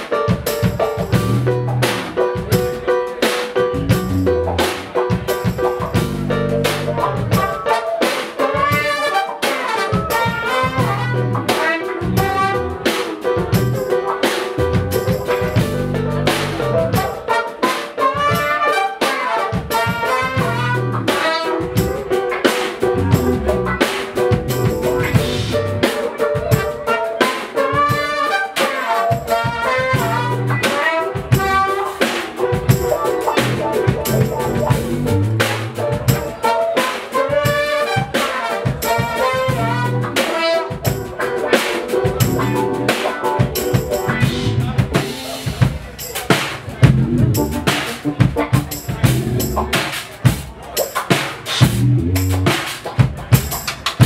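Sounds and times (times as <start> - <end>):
electric guitar: 0.0 - 45.8, 46.6 - 49.9
drum kit groove: 0.0 - 54.0
horn section melody: 1.1 - 45.6.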